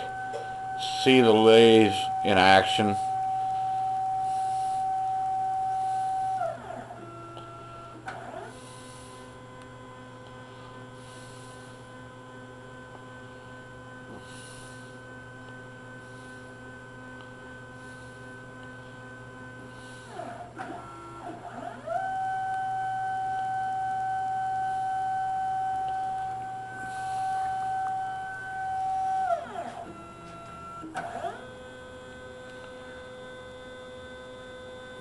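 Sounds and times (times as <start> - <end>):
stepper motors whining: 0.0 - 35.0.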